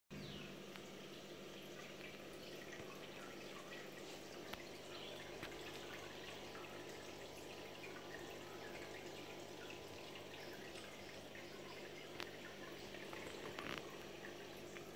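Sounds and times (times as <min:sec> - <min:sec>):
aquarium filter water trickling: 0:00.1 - 0:14.9
low steady hum: 0:00.1 - 0:14.9
water dripping: 0:00.3 - 0:14.9.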